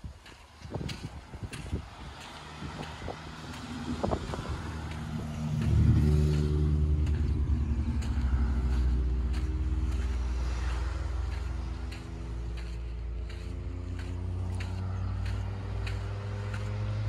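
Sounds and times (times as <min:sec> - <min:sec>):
engine running: 0:00.7 - 0:17.0.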